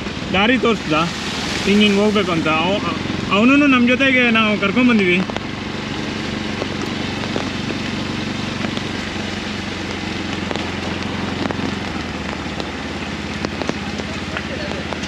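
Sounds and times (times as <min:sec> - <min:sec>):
constant hiss: 0:00.0 - 0:15.0
motorcycle engine running: 0:00.0 - 0:15.0.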